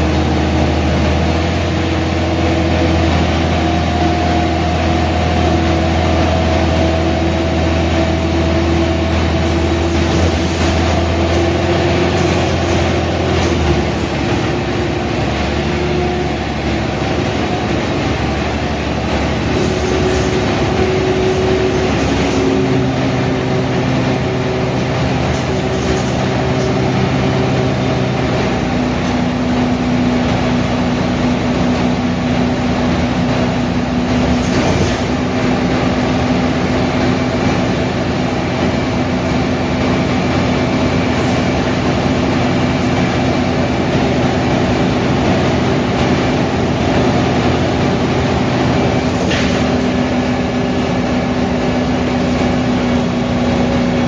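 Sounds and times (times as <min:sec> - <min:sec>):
bus diesel engine drone: 0:00.0 - 0:54.0
whining tones: 0:00.7 - 0:54.0.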